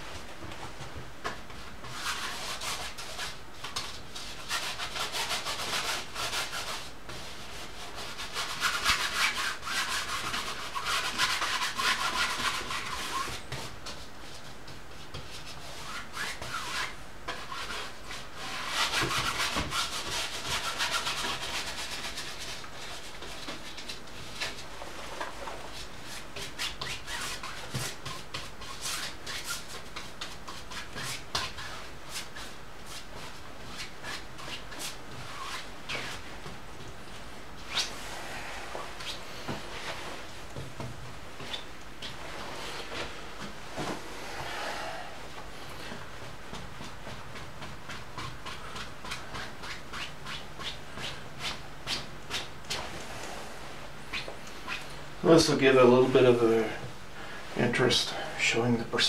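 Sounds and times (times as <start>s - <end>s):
paint brush scrubbing on canvas: 1.6s - 56.7s.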